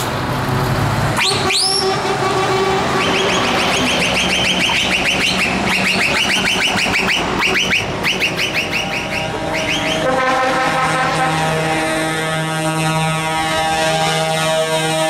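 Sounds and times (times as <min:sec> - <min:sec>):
diesel truck engines: 0:00.0 - 0:15.0
electronic horn rising chirps: 0:01.2 - 0:15.0.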